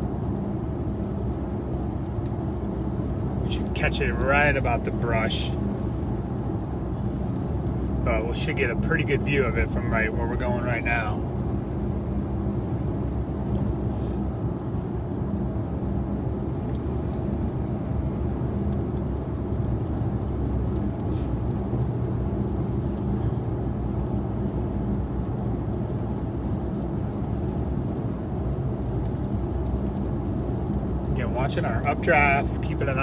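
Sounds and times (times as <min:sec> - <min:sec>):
car cabin road and engine noise: 0:00.0 - 0:33.0.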